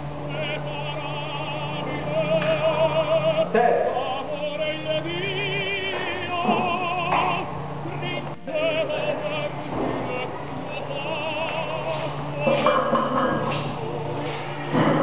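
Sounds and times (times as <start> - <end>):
low musical accompaniment: 0.0 - 15.0
person singing with vibrato: 0.0 - 15.0.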